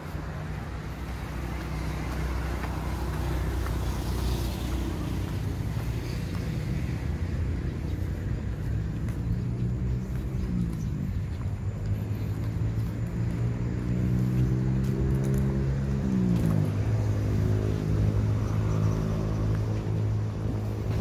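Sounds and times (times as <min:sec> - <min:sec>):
road traffic rumble: 0:00.0 - 0:21.0
vehicle passing: 0:00.0 - 0:21.0.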